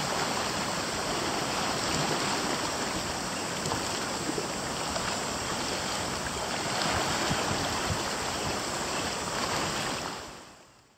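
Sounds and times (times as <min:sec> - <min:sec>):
waves washing over rocks: 0:00.0 - 0:10.5.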